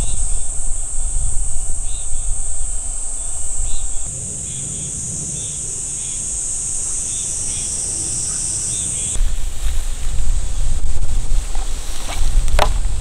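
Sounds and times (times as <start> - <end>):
faint insect chirps: 0.0 - 10.9
insects droning: 0.0 - 13.0
wind rumble on microphone: 0.0 - 13.0.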